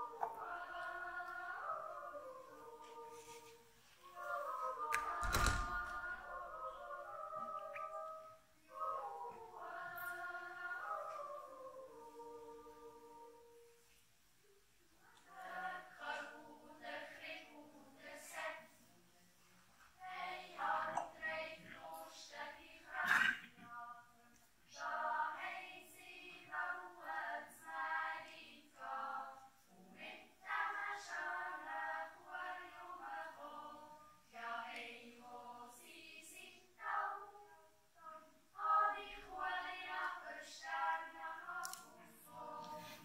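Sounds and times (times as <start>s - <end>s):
women singing: 0.0s - 13.8s, 15.0s - 19.1s, 20.0s - 43.0s
children's choir yodeling: 0.0s - 13.9s, 15.2s - 18.7s, 20.0s - 43.0s.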